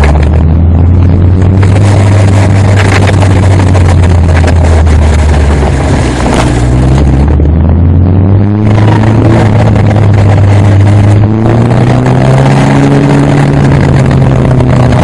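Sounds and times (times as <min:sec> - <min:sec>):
grass rustling against car: 0:00.0 - 0:07.4, 0:08.6 - 0:15.0
car engine running at low revs: 0:00.0 - 0:15.0.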